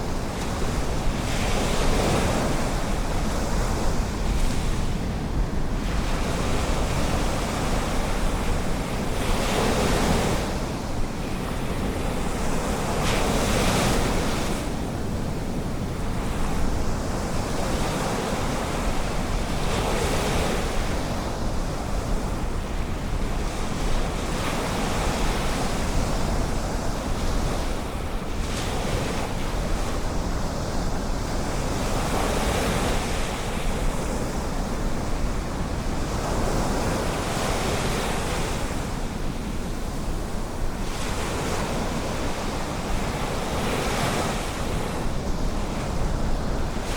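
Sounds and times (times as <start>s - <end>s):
ocean surf washing: 0.0s - 46.9s
wind rumbling on microphone: 0.0s - 46.9s.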